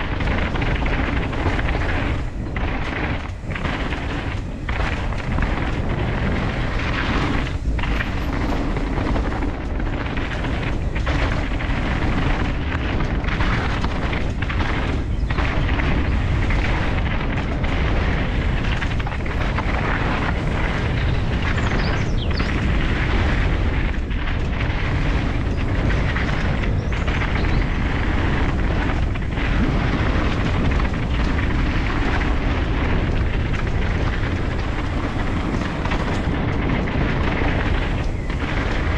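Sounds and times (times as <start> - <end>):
bike tyres rolling on dirt: 0.0 - 38.9
wind rumble on microphone: 0.0 - 38.9.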